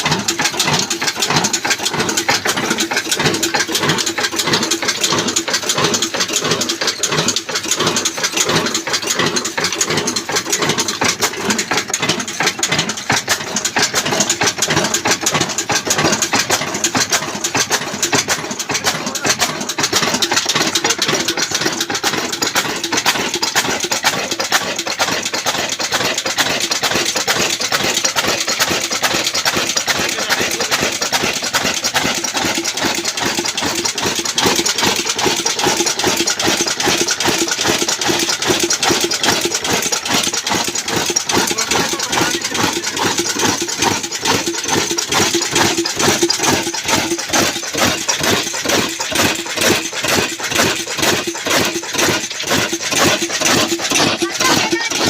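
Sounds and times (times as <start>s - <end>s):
diesel engine firing beat: 0.0s - 55.0s.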